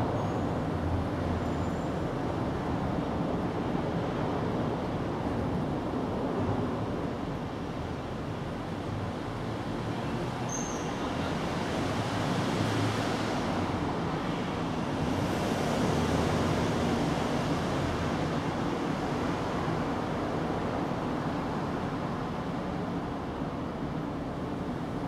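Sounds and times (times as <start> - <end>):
outdoor background rush: 0.0 - 25.0.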